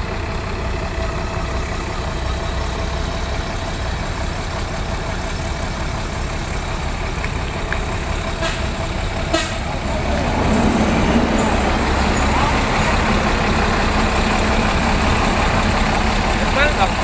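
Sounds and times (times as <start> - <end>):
diesel bus engine idling: 0.0 - 17.0.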